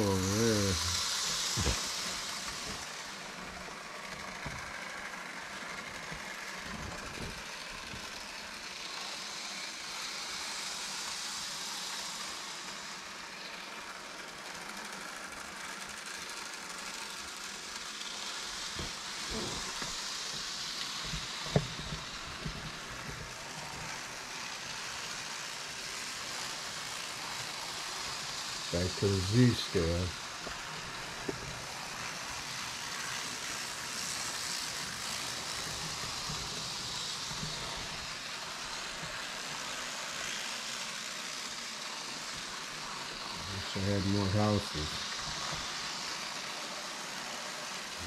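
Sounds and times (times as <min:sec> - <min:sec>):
model trains whirring: 0:00.0 - 0:48.0.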